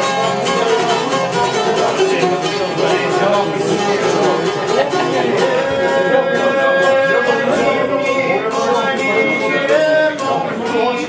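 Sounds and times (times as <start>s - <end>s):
plucked lutes playing folk music: 0.0s - 11.0s.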